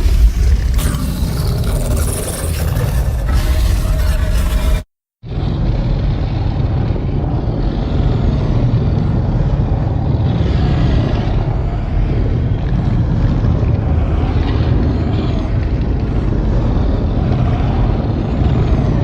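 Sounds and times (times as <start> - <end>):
deep rumble: 0.0 - 19.0.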